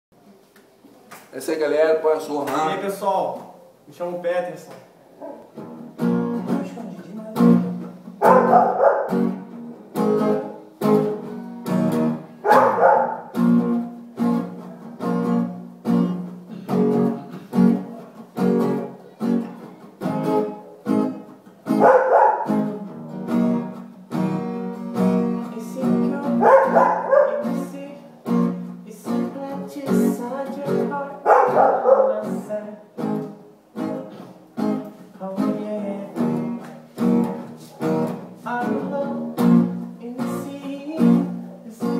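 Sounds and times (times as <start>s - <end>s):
plucked guitar music with beat: 4.8s - 41.9s.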